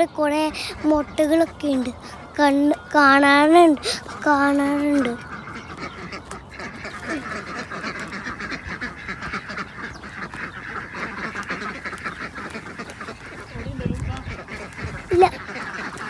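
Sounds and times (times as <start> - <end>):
poultry calling: 0.0 - 16.0.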